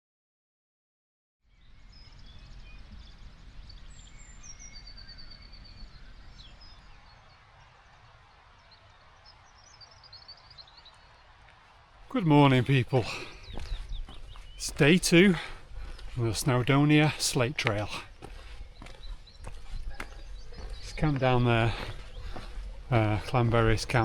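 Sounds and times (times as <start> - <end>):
small birds singing: 1.4 - 24.0
faint low outdoor rumble: 1.5 - 24.0.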